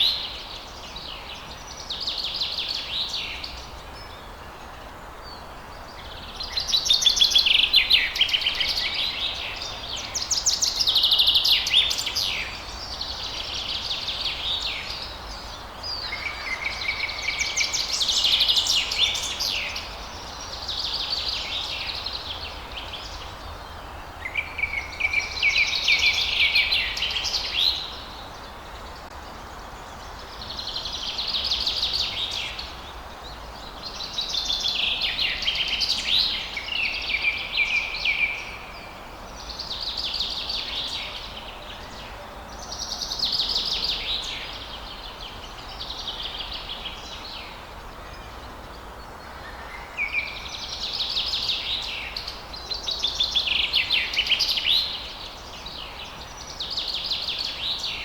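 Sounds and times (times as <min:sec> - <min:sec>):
low background hiss: 0:00.0 - 0:58.0
songbird singing: 0:00.0 - 0:58.0.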